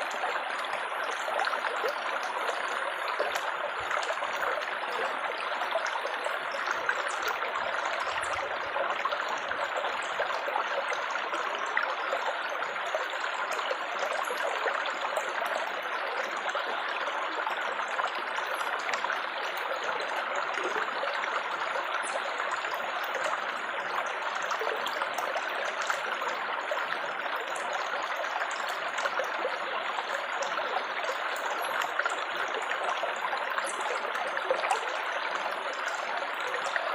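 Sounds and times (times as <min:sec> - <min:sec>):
water trickling and splashing: 0:00.0 - 0:36.9.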